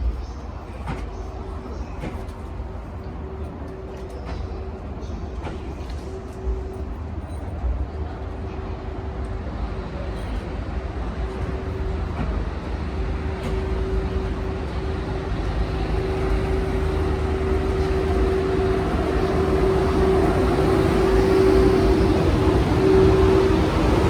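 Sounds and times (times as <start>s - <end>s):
steady locomotive hum: 0.0s - 24.0s
train rumbling along track: 0.0s - 24.0s.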